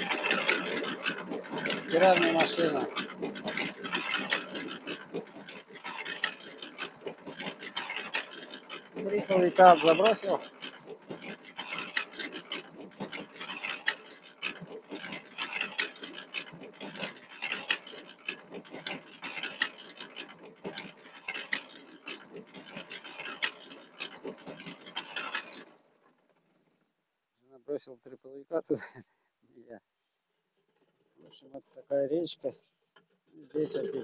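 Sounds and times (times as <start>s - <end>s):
mixer drum churning and sloshing: 0.0s - 26.8s, 30.7s - 34.0s.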